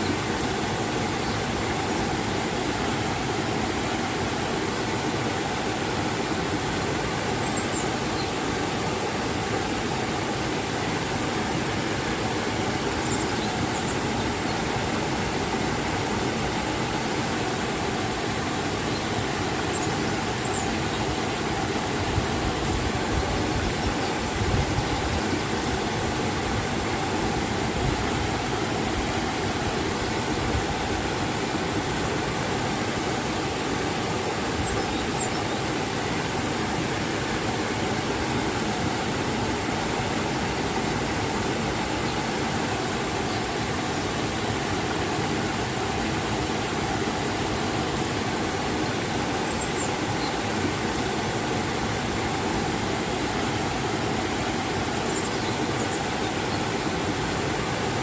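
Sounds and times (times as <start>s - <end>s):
waterfall roar: 0.0s - 58.0s.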